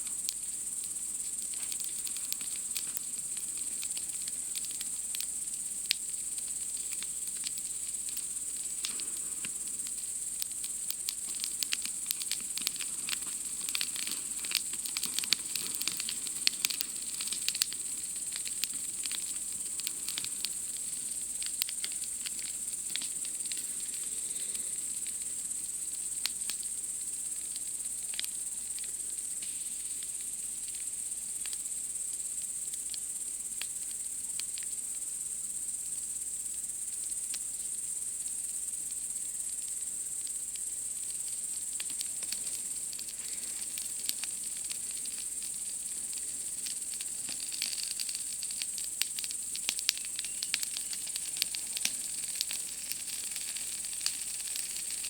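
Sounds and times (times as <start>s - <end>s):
campfire crackling and popping: 0.0s - 34.7s, 39.6s - 55.0s
night insects chorus: 0.0s - 55.0s.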